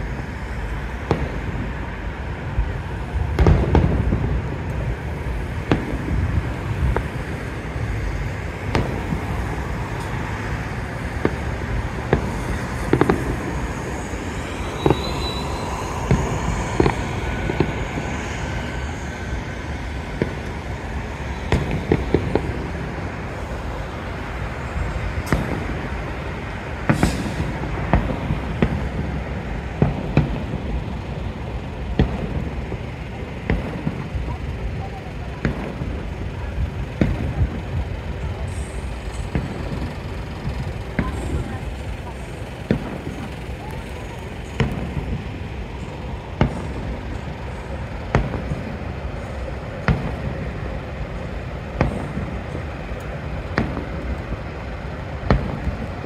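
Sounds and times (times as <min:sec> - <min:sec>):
fireworks booming: 0:00.0 - 0:56.0.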